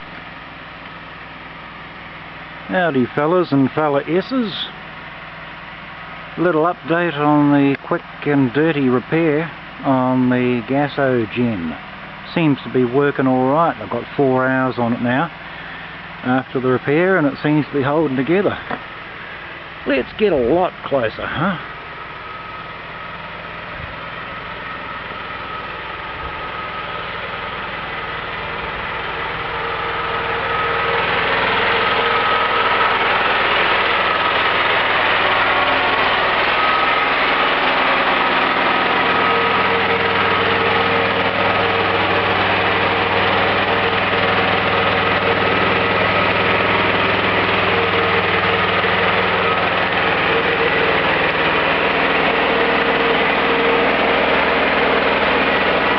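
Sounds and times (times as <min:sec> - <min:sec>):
small generator engine running: 0:00.0 - 0:55.9.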